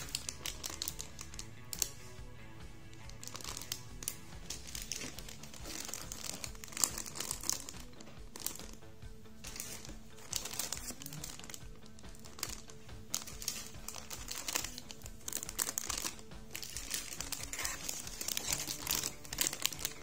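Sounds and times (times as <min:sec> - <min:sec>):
plastic bags crinkling: 0:00.0 - 0:02.2, 0:02.8 - 0:20.0
quiet background music: 0:00.0 - 0:20.0.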